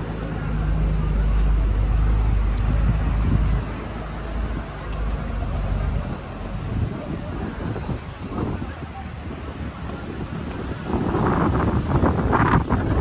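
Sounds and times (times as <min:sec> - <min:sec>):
street traffic: 0:00.0 - 0:13.0
vehicle engine running close: 0:00.0 - 0:13.0.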